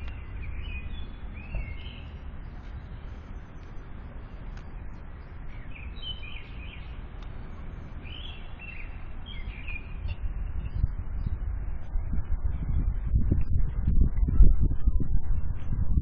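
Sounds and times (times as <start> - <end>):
small birds chirping: 0.0 - 13.4
steady low rumble: 0.0 - 16.0.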